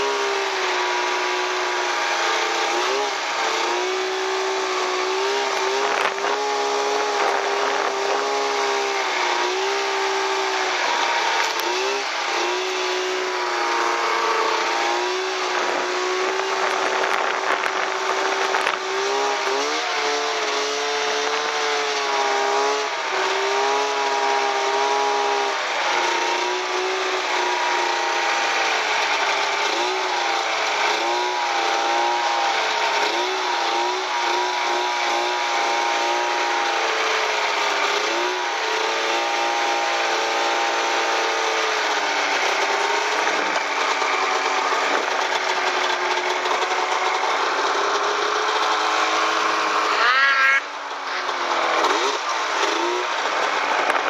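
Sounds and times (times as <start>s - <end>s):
wind and track hiss: 0.0s - 50.0s, 50.6s - 54.0s
snowmobile engine running: 0.0s - 54.0s.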